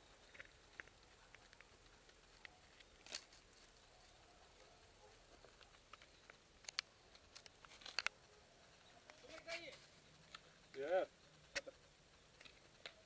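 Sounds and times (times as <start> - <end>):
faint clicks and rustles: 0.0 - 13.0
sharp ticks: 0.0 - 13.0.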